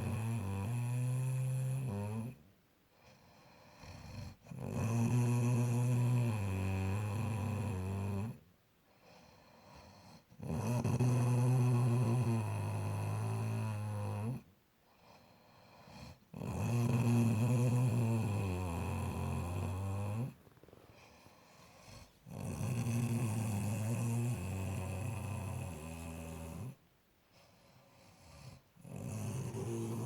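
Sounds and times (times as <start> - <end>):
low buzzing snoring: 0.0 - 2.4, 3.2 - 8.4, 9.1 - 14.5, 15.1 - 26.8, 27.9 - 30.0.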